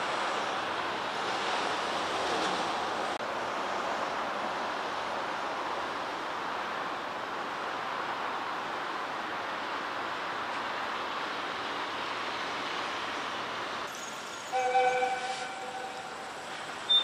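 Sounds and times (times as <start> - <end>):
outdoor ambient hiss: 0.0 - 17.0.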